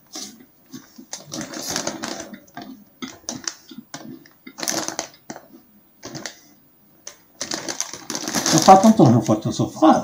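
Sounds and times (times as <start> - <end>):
plastic snack bag crinkling: 1.1 - 9.5.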